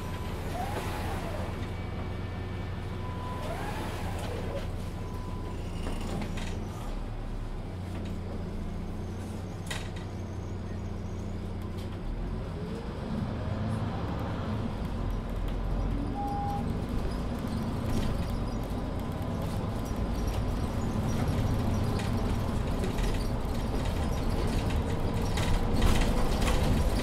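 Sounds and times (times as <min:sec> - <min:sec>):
bus engine drone: 0:00.0 - 0:27.0.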